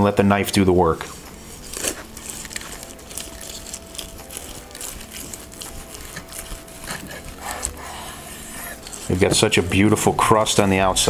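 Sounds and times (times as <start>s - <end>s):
knife sawing through crusty meat: 1.4s - 10.6s.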